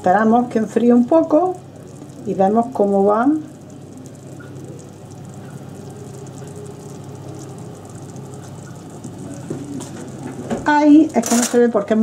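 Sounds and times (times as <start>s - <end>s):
low steady hum: 0.0s - 12.0s
marmalade bubbling in a pot: 0.0s - 12.0s.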